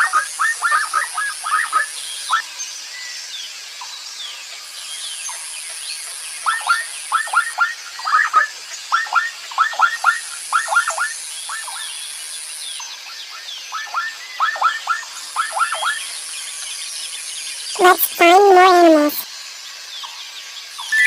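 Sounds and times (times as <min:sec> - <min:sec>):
high steady hiss: 0:00.0 - 0:21.0.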